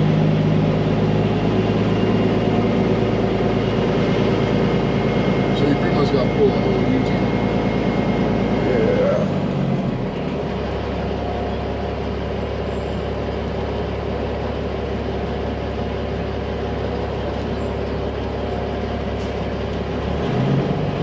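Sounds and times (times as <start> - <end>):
diesel truck engine droning: 0.0 - 21.0.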